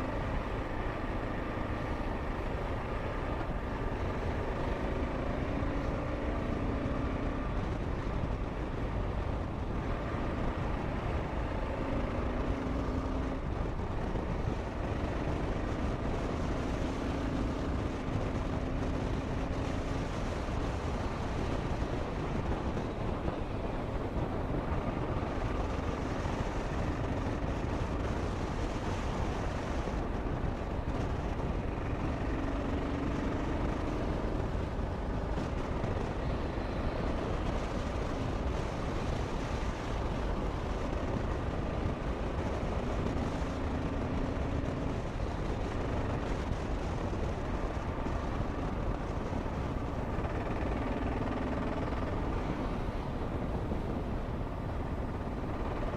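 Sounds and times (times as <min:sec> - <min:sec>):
heavy wind noise: 0:00.0 - 0:55.9
motorcycle engine running: 0:00.0 - 0:55.9.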